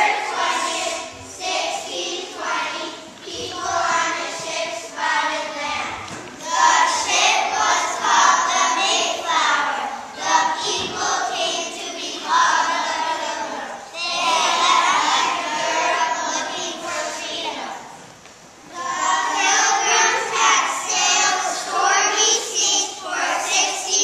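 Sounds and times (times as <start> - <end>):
children singing in unison: 0.0 - 18.0, 18.6 - 24.0.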